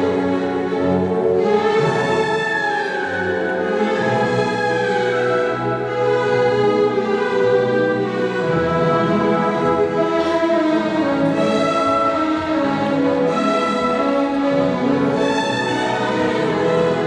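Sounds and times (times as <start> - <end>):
orchestral strings playing: 0.0 - 17.0.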